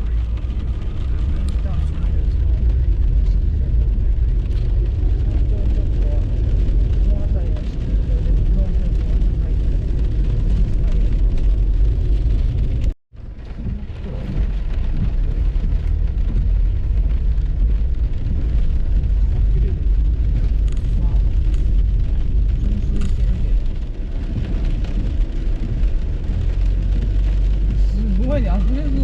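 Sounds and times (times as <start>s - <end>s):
car driving low rumble: 0.0s - 29.0s
heavy rain: 0.0s - 29.0s.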